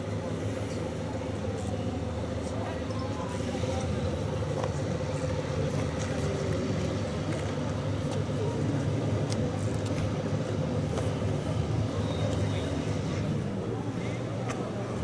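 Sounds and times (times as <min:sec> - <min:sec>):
diesel railcar engine humming: 0:00.0 - 0:15.0.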